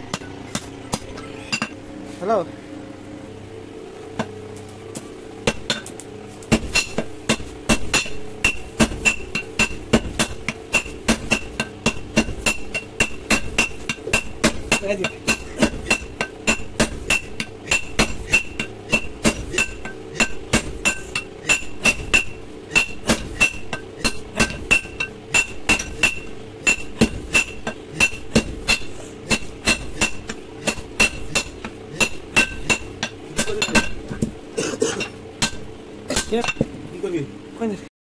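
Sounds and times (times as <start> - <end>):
hammer striking metal on anvil: 0.0 - 1.8, 5.4 - 34.3, 35.4 - 36.7.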